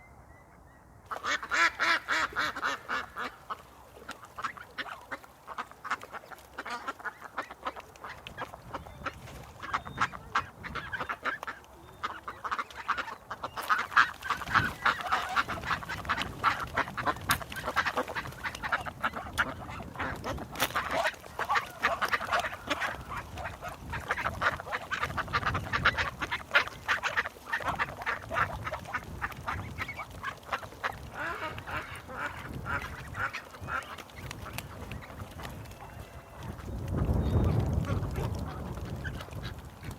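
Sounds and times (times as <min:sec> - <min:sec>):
ducks quacking: 0:01.1 - 0:39.9.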